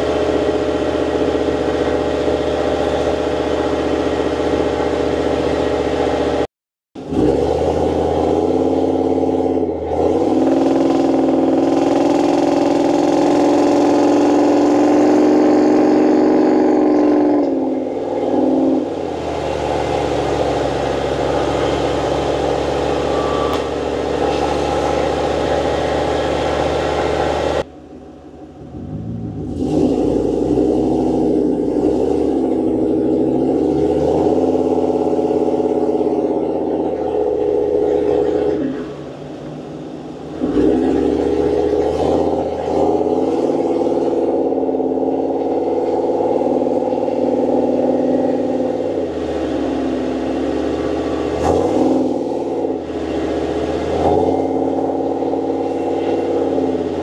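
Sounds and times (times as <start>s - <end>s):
engine hum inside vehicle: 0.0s - 57.0s
road noise: 0.0s - 57.0s.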